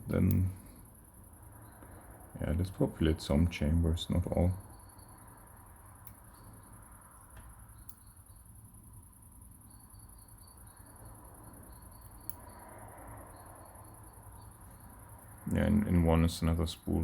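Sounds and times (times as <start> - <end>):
steady high-pitched buzz: 0.0 - 17.0.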